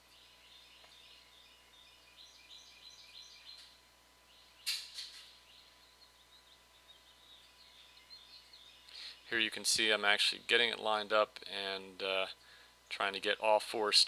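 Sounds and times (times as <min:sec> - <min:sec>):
faint bird chirping: 0:00.0 - 0:10.8, 0:11.4 - 0:13.8.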